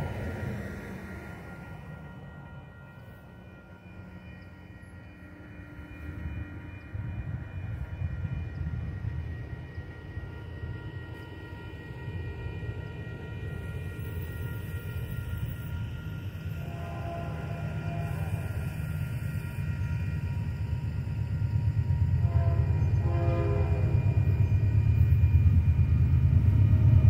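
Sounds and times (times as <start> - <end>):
freight train rumbling: 0.0 - 27.0
railroad crossing bells ringing: 0.0 - 27.0.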